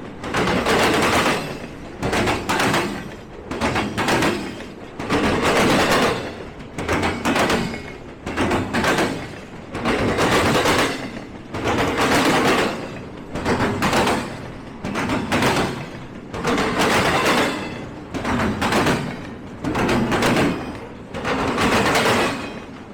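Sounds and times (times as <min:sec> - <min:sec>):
train wheels banging over track: 0:00.0 - 0:22.9.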